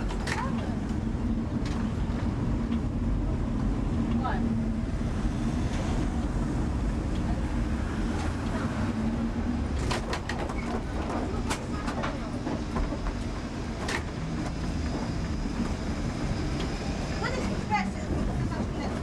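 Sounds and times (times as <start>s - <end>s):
tram wheels rumbling on track: 0.0s - 19.0s.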